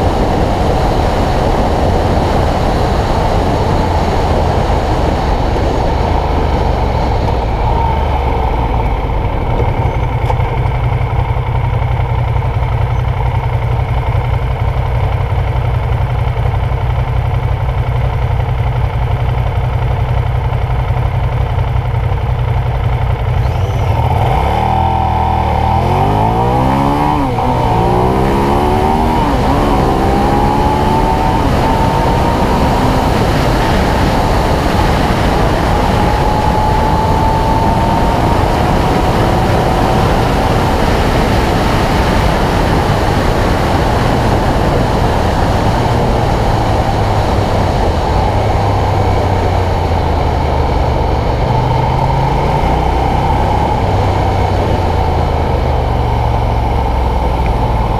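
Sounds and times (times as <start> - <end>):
wind noise: 0.0 - 13.0, 23.4 - 57.9
motorcycle engine accelerating: 0.0 - 57.9.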